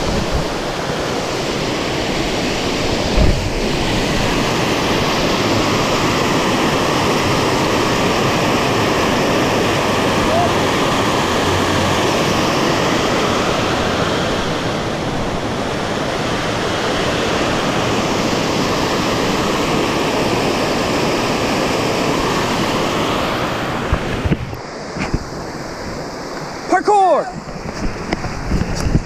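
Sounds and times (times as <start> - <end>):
water rushing over rock: 0.0 - 29.0.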